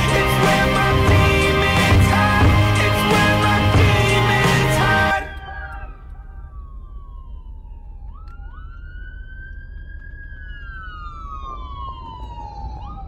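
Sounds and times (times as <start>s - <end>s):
ambulance siren wailing: 0.0s - 13.0s.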